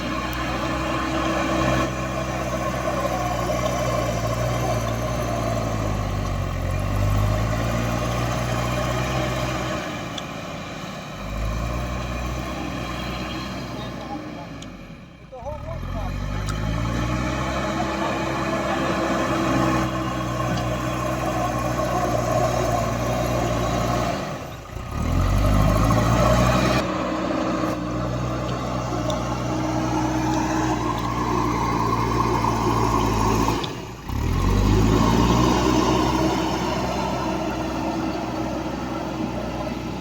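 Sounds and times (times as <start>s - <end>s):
heavy diesel engine revving: 0.0s - 40.0s.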